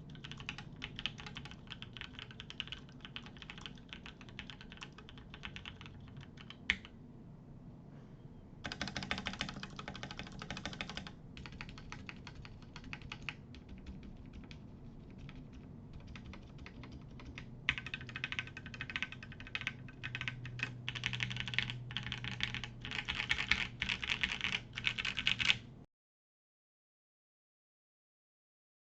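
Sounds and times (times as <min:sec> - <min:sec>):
mechanical keyboard typing: 0:00.0 - 0:06.9, 0:08.6 - 0:25.6.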